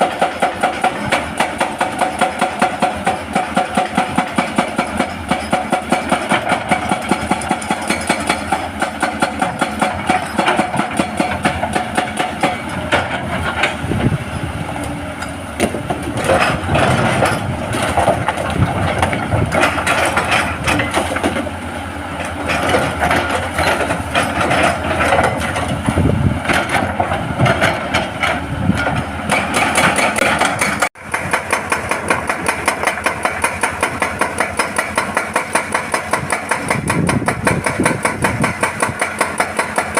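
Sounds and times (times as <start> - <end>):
diesel engine running: 0.0 - 39.9
hydraulic breaker hammering rock: 0.0 - 39.9.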